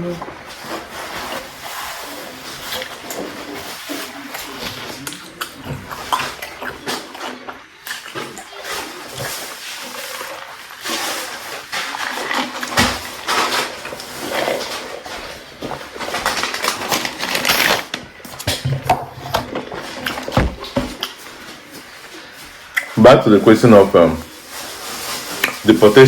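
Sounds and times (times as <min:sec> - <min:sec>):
chewing: 0:00.2 - 0:18.6, 0:19.3 - 0:23.0.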